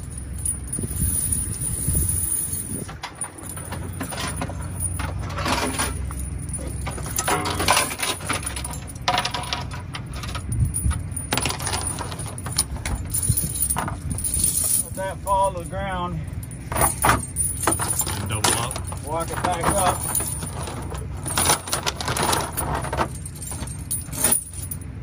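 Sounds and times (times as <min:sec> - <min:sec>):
snow chains clinking and rattling: 0:00.0 - 0:25.0.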